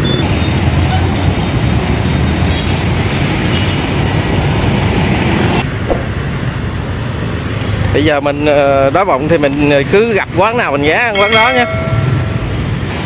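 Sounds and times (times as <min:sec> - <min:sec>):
motorbike and truck traffic rumble: 0:00.0 - 0:13.0.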